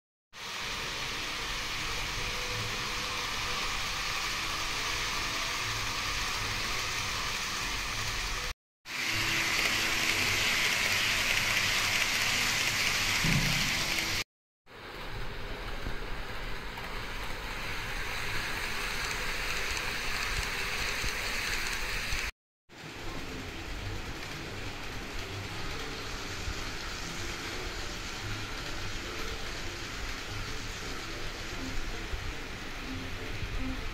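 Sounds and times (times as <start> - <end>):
model train wheels hissing: 0.4 - 14.2, 15.2 - 22.3, 23.1 - 33.9.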